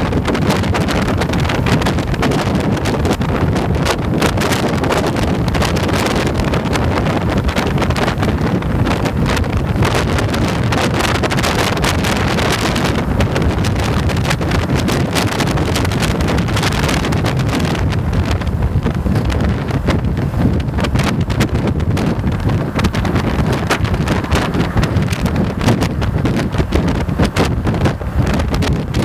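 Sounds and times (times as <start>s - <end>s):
motorcycle engine and tyre noise: 0.0s - 29.0s
wind buffeting microphone: 0.0s - 29.0s.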